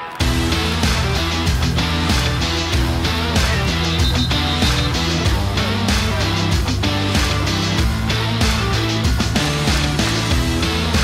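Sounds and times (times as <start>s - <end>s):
rock guitar: 0.0s - 11.0s
steady drum beat: 0.2s - 11.0s.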